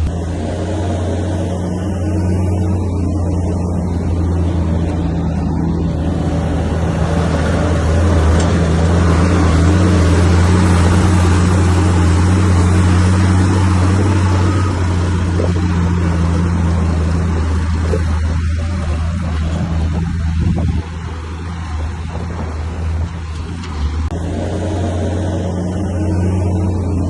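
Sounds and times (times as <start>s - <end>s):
diesel machine engine drone: 0.0s - 27.0s.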